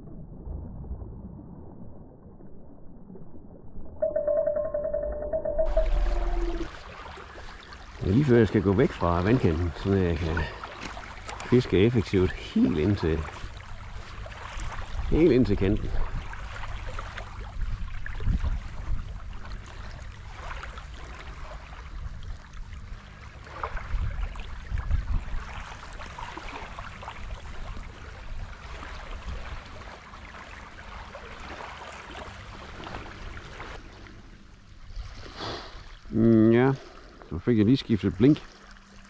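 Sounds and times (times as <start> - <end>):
seawater lapping at shore: 5.2 - 39.0.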